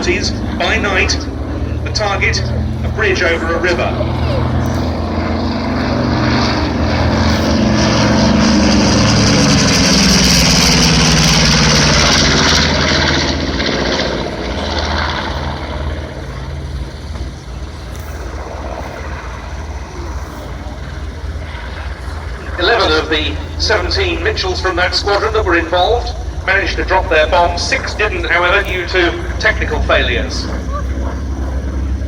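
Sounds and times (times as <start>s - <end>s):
propeller plane flying past: 0.0s - 32.0s.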